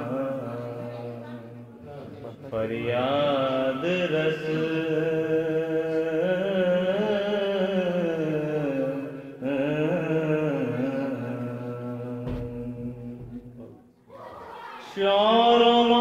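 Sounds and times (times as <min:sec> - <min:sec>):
man chanting: 0:00.0 - 0:13.6, 0:14.9 - 0:16.0.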